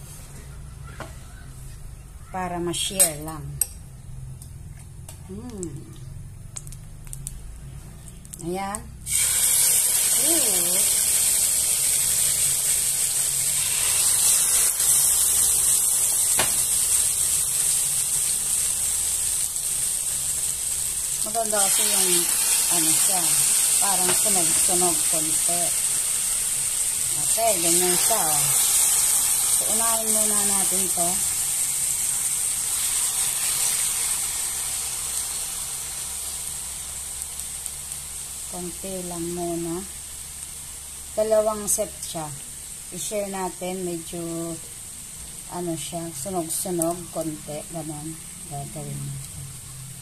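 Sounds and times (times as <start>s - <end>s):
pork sizzling in oil: 8.0s - 50.0s.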